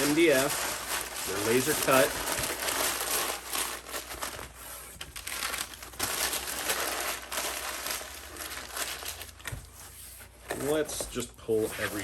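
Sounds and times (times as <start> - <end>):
cardboard and packing rustling: 0.0 - 12.0.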